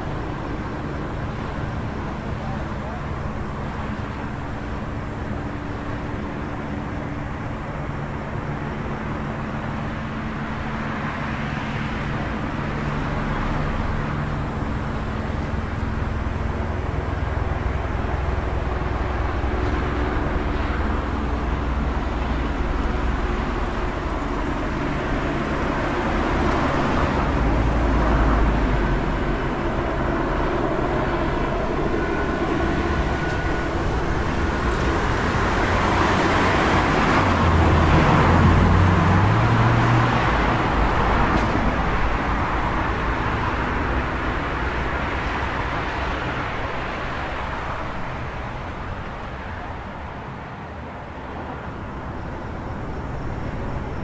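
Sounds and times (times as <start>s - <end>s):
low rumble of engines: 0.0s - 54.0s
vehicles passing: 0.0s - 54.0s.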